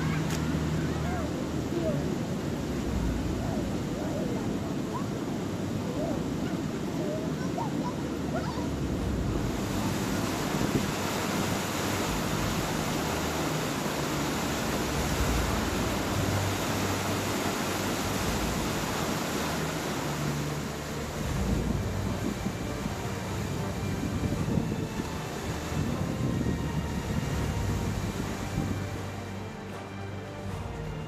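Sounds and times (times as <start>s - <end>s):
wind buffeting microphone: 0.0s - 29.6s
water roaring over a weir: 0.0s - 31.0s.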